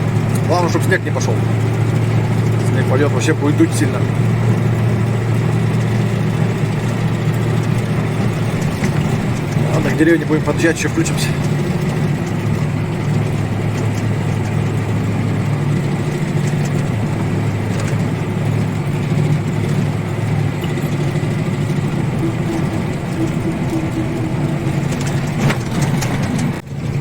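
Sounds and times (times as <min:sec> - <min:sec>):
truck engine running under load: 0:00.0 - 0:27.0.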